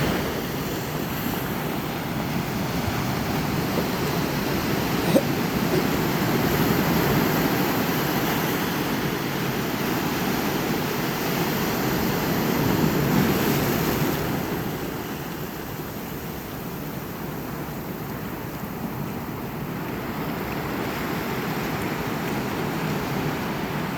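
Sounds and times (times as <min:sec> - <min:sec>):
ocean waves washing onto shore: 0:00.0 - 0:23.9.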